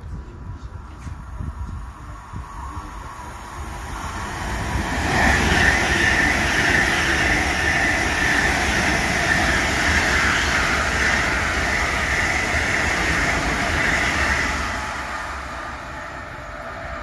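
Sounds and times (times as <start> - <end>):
train passing with rumble: 0.0 - 17.0.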